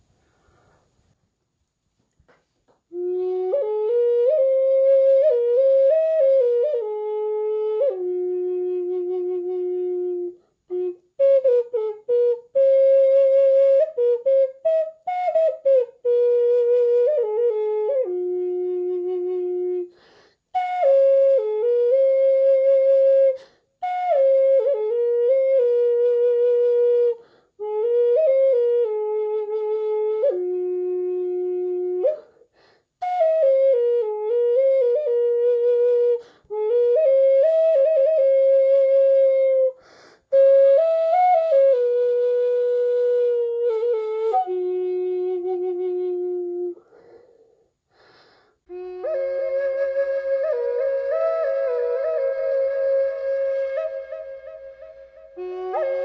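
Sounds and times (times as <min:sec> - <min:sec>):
wooden flute melody: 0:02.0 - 0:47.6, 0:48.6 - 0:56.0.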